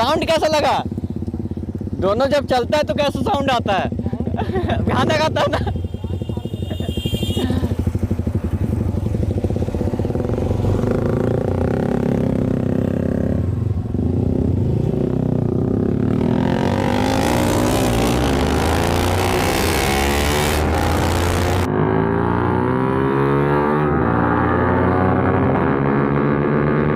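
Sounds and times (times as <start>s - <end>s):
motorcycle exhausts revving: 0.0s - 26.9s.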